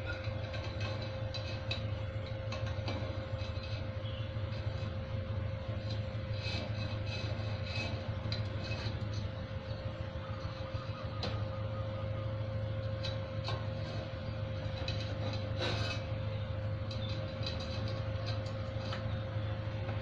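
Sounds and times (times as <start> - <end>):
welding machine humming: 0.0 - 20.0.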